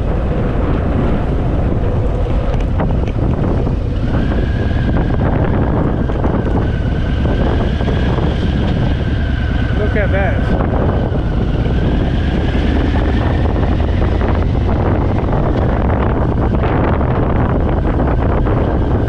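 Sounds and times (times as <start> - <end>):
motorcycle engine rumble: 0.0 - 19.0
wind rushing over microphone: 0.0 - 19.0.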